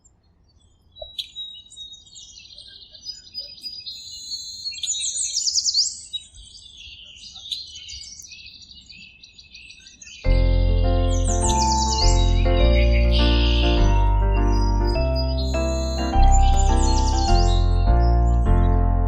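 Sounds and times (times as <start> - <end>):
birds chirping and singing: 0.5 - 19.0.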